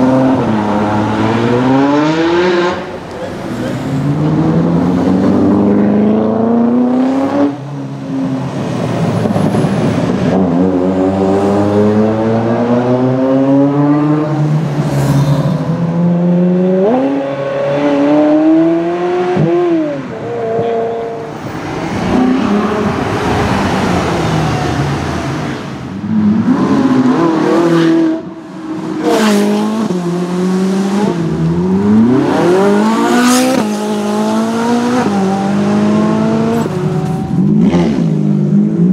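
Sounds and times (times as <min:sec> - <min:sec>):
cars passing close by: 0:00.0 - 0:38.9
sports car engines accelerating: 0:00.0 - 0:38.9.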